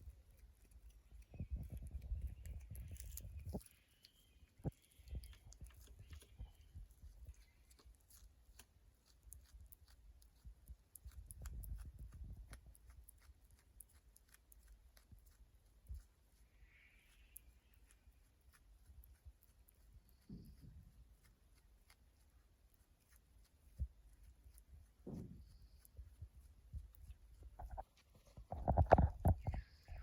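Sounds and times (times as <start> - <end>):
animal chewing crunching: 0.0 - 30.0.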